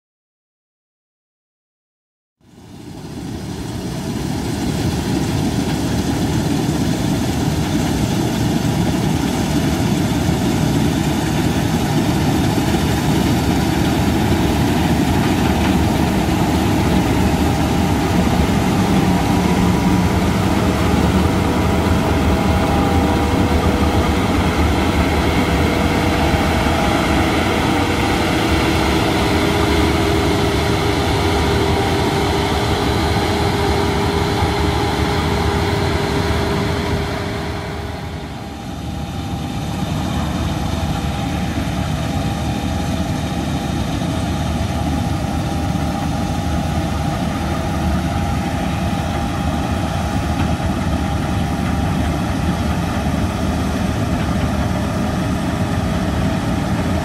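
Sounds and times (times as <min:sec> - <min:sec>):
combine harvester drone: 0:02.4 - 0:57.0.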